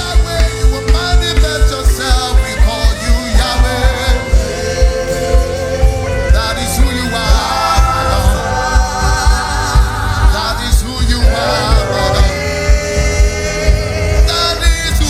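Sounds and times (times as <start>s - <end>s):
gospel singing over a band: 0.0s - 15.0s
steady kick drum: 0.0s - 15.0s.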